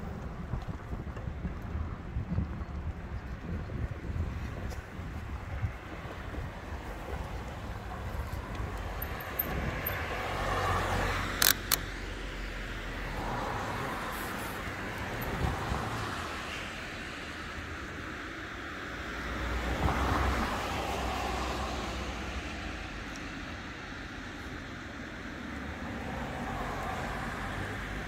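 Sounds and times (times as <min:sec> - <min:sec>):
wind and road noise: 0:00.0 - 0:28.0
cars passing: 0:03.8 - 0:28.0.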